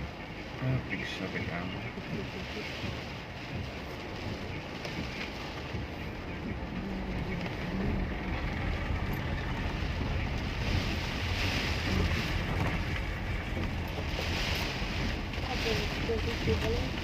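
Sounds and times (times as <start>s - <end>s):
low rumble of engine and road: 0.0s - 17.0s
rain hiss: 0.0s - 17.0s.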